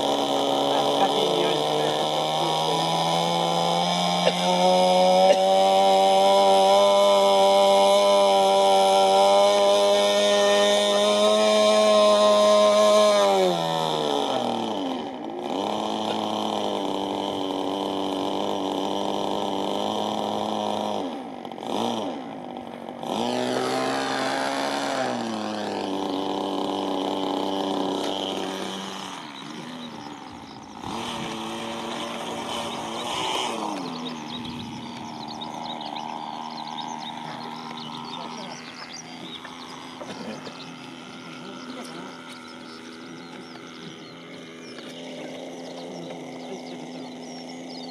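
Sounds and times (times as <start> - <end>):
model aircraft engine running: 0.0 - 47.9.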